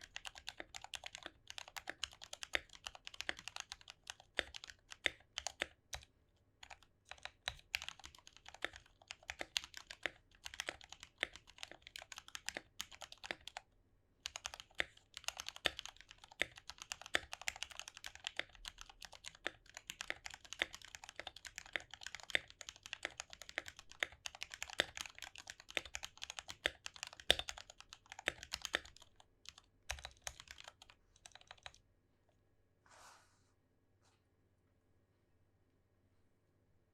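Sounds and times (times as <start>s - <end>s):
mechanical keyboard typing: 0.0s - 13.6s, 14.2s - 31.8s.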